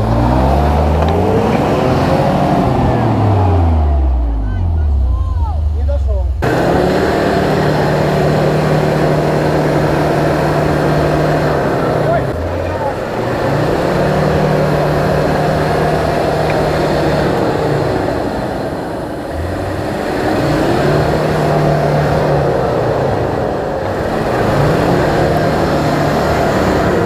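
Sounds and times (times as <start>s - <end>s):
engine revving hard: 0.0s - 5.0s, 5.8s - 27.0s.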